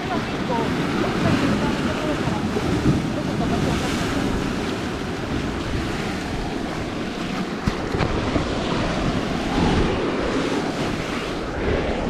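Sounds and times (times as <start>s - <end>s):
sea surf washing against concrete: 0.0s - 12.0s
wind buffeting microphone: 0.0s - 12.0s.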